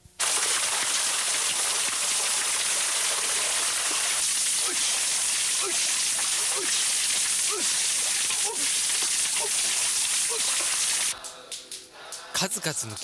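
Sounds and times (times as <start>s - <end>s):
waterfall splashing: 0.2s - 11.2s.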